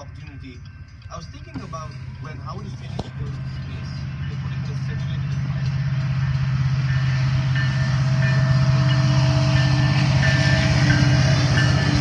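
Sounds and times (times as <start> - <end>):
diesel locomotive passing: 0.0 - 12.0.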